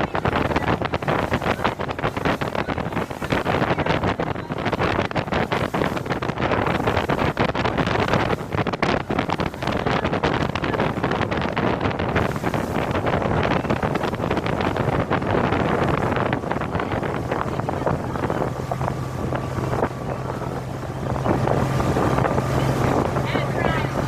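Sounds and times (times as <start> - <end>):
boat motor: 0.0 - 24.0
water rushing under hull: 0.0 - 24.0
wind buffeting microphone: 0.0 - 24.0.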